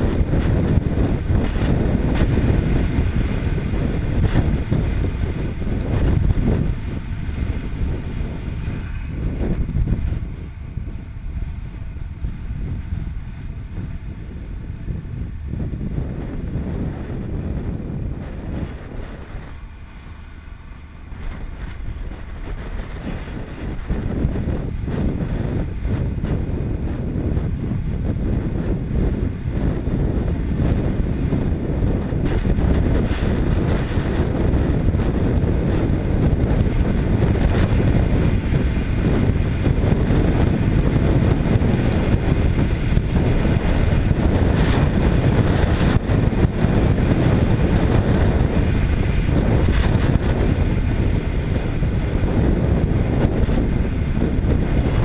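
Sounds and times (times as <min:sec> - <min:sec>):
motorcycle engine: 0:00.0 - 0:55.0
wind rushing on microphone: 0:00.0 - 0:55.0.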